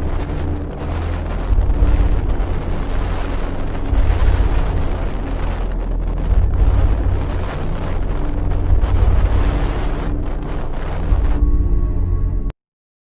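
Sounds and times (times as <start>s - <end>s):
heavy waves: 0.0s - 11.7s
roaring wind: 0.0s - 12.5s.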